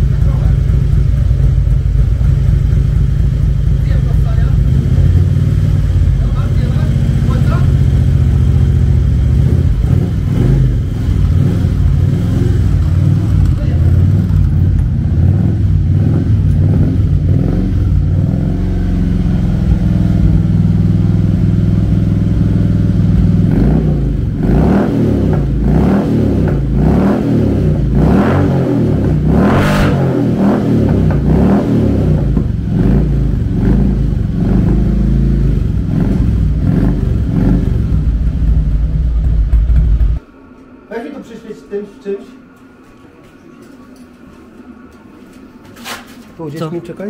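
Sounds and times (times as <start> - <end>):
motorcycle engine revving: 0.0 - 40.2.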